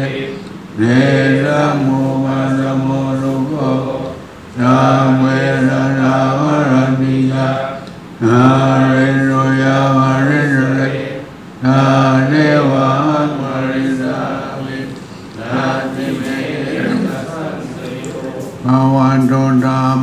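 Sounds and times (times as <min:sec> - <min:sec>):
monks chanting in unison: 0:00.0 - 0:20.0.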